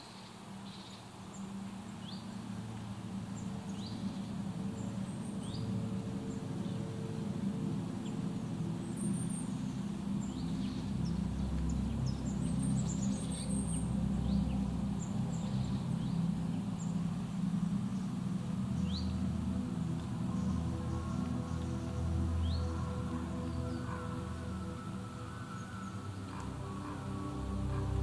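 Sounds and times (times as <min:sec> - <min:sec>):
songbirds chirping: 0:00.0 - 0:28.0
low steady drone: 0:00.2 - 0:28.0.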